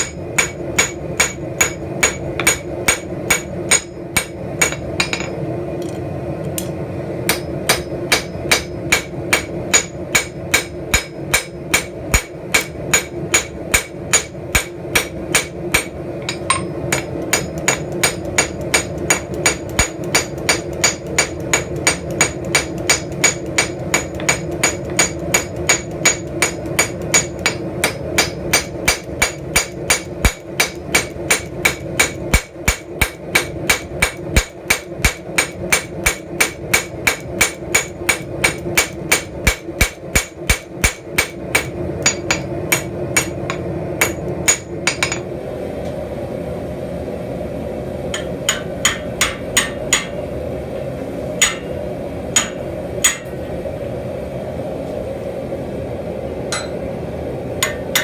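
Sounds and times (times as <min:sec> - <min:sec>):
hammer striking steel on anvil: 0:00.0 - 0:45.3, 0:48.2 - 0:50.3, 0:51.4 - 0:51.8, 0:52.4 - 0:53.4, 0:56.5 - 0:56.8, 0:57.6 - 0:58.0.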